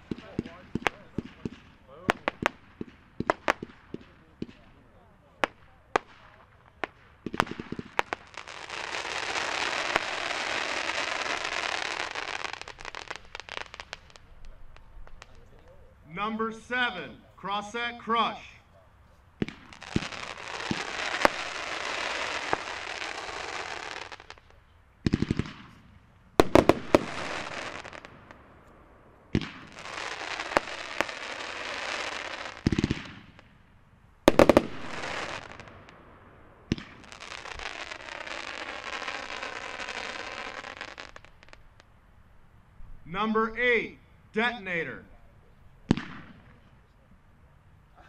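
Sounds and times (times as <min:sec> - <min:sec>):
fireworks launch bangs: 0:00.0 - 0:15.7, 0:19.4 - 0:33.6, 0:34.3 - 0:41.9, 0:45.8 - 0:46.7
fireworks crackling and hissing: 0:00.0 - 0:48.0.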